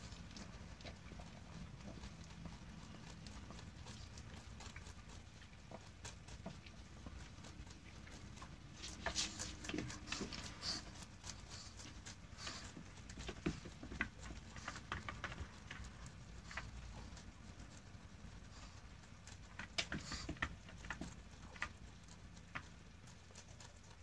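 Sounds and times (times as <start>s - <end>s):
rabbit chewing greens: 0.0s - 24.0s.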